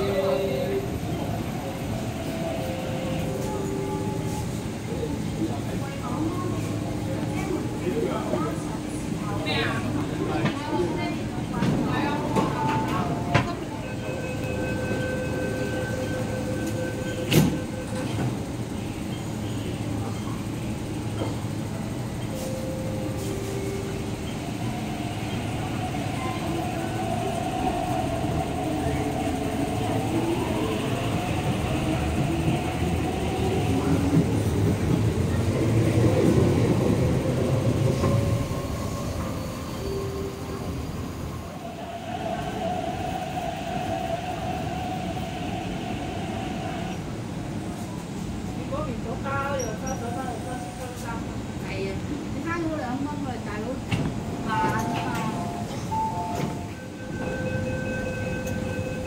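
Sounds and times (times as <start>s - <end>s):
train cars rumbling on track: 0.0s - 59.0s.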